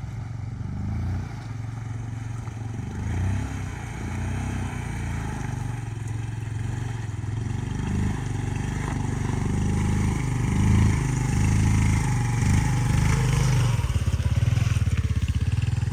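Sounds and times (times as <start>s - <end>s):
motorbike engine running: 0.0s - 15.9s
road and wind noise: 0.0s - 15.9s.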